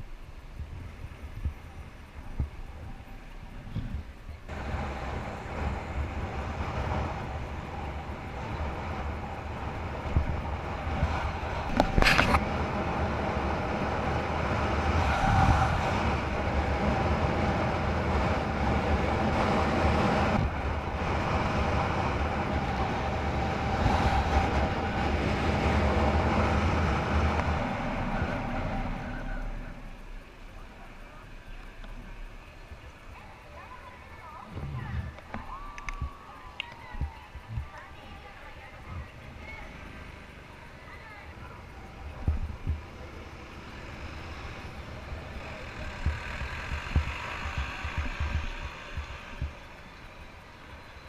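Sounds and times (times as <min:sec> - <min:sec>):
constant whine: 0:00.0 - 0:51.0
vehicle mechanical rumble: 0:00.0 - 0:51.0.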